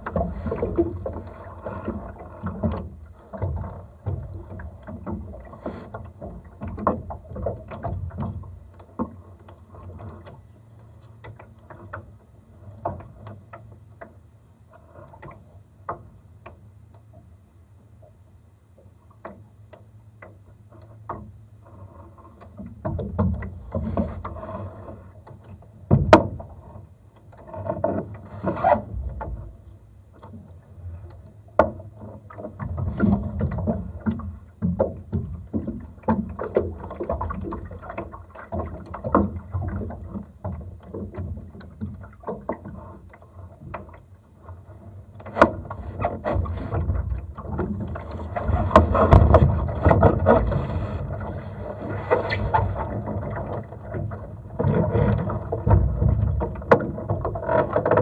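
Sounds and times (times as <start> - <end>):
water lapping against a hull: 0.0 - 58.0.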